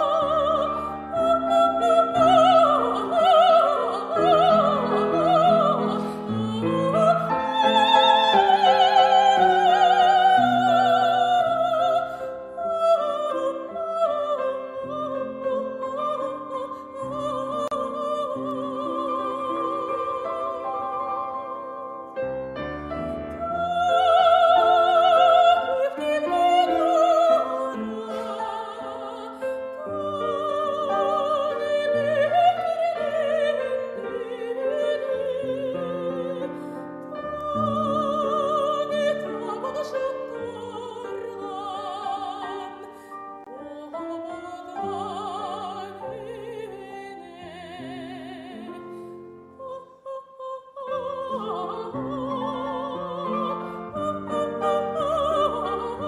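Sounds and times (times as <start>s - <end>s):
piano: 0.0s - 56.0s
woman singing opera: 0.0s - 56.0s.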